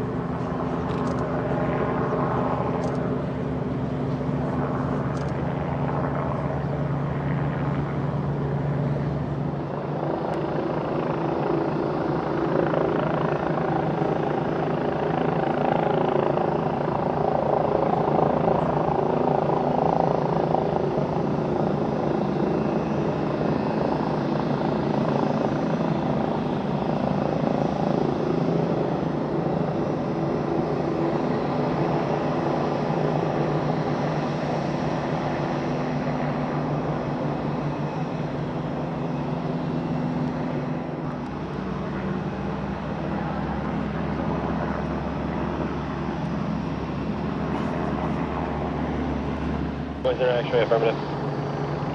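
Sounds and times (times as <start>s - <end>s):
jet engines running at low power: 0.0s - 51.9s.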